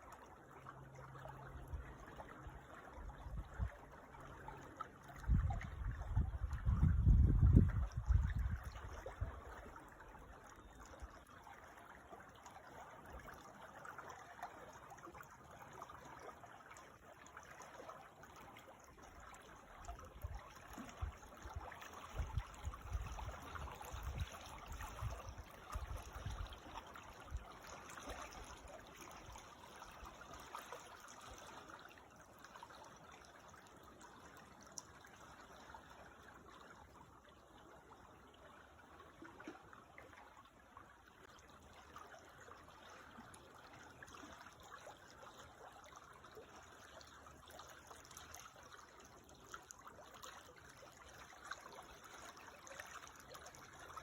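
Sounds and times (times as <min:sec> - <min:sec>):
creek water trickling: 0:00.0 - 0:54.0.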